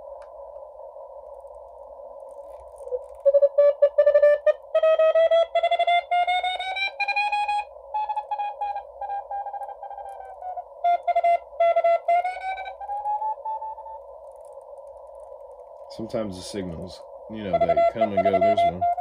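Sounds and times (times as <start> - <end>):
filtered radio hiss: 0.0 - 19.0.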